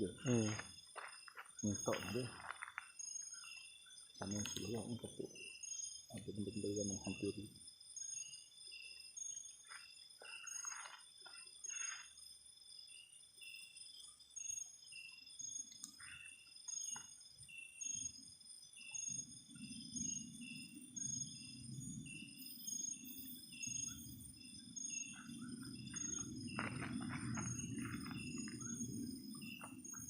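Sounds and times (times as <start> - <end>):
crickets trilling and chirping: 0.0 - 30.0.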